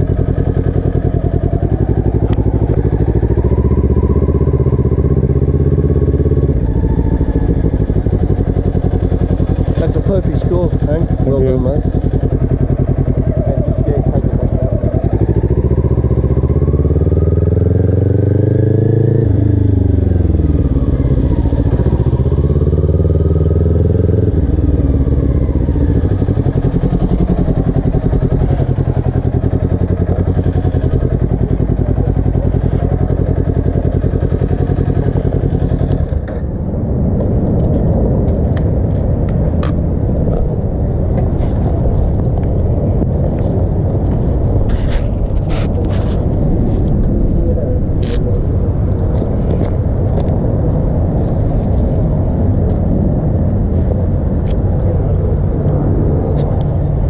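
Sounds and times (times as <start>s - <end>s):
motorcycle engine pulling away: 0.0s - 57.0s.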